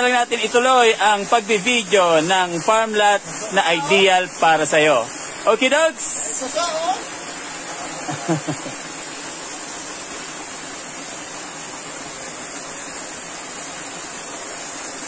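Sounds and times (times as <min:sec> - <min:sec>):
small waterfall pouring over rocks: 0:00.0 - 0:15.0.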